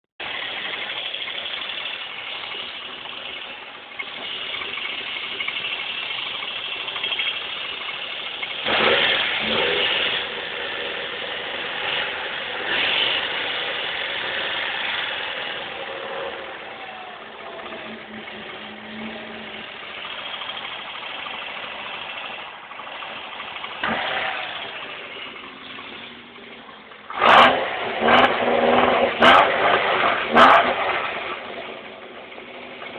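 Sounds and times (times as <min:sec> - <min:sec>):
car engine running: 0:00.2 - 0:32.9.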